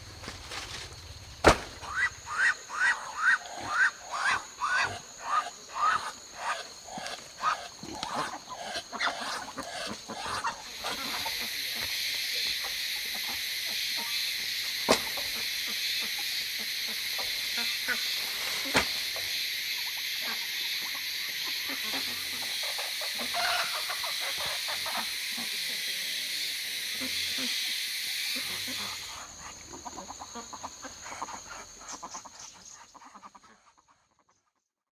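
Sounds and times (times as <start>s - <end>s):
high-pitched insect chorus: 0.0s - 33.5s.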